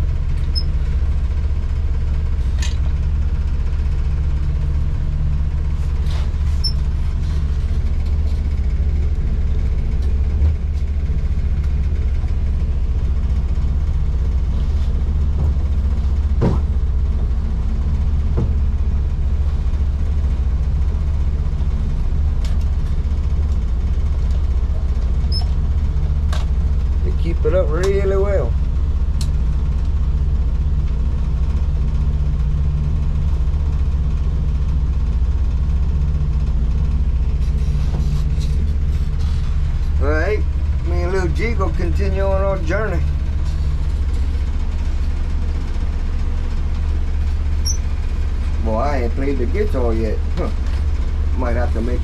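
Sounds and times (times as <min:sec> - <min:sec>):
boat engine droning: 0:00.0 - 0:52.0.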